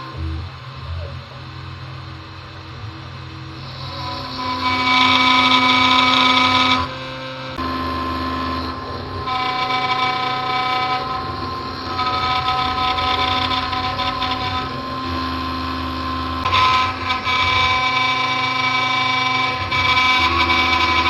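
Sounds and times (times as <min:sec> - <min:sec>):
router spindle whine: 0:00.0 - 0:21.0
bit cutting wood: 0:03.6 - 0:21.0.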